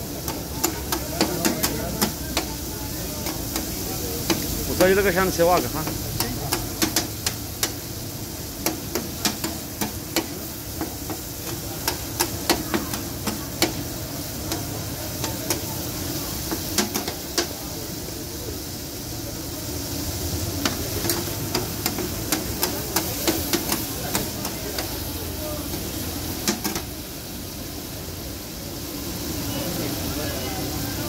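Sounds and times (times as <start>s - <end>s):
liver sizzling: 0.0s - 31.0s.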